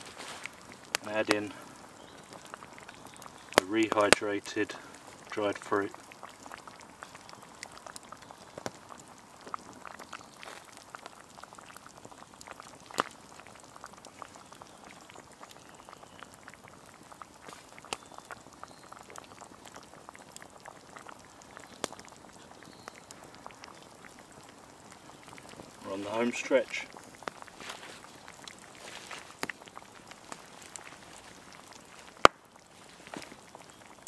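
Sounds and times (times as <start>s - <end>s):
stew bubbling with pops: 0.0s - 34.0s.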